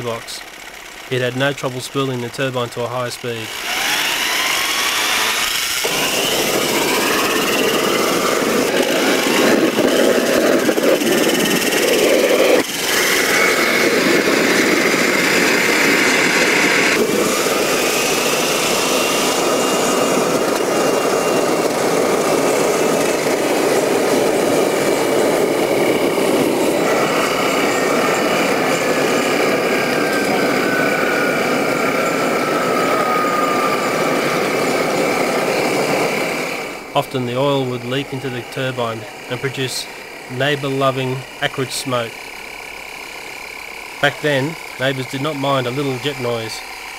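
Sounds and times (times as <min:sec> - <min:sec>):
turbine whine: 0:00.0 - 0:46.9
high whine falling in pitch: 0:01.1 - 0:46.9
jet engine roaring: 0:03.2 - 0:46.9.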